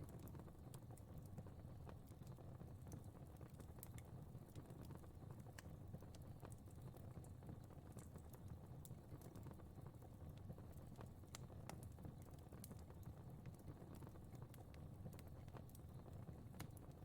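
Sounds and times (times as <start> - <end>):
fire crackling: 0.1 - 17.0.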